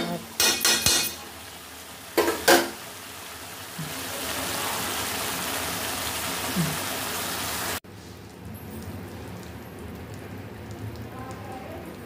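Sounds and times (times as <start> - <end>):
low sizzle: 0.0 - 12.0.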